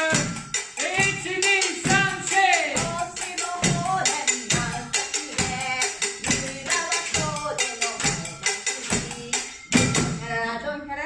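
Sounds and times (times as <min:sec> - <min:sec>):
song with steady beat: 0:00.0 - 0:10.4
pots struck with sticks: 0:00.1 - 0:10.2.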